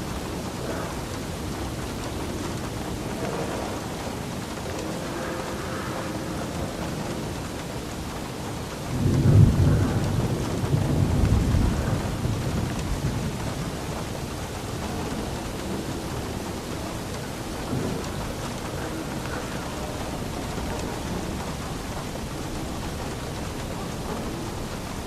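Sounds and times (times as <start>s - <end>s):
steady rain: 0.0s - 25.0s
thunder rumble: 0.0s - 25.0s.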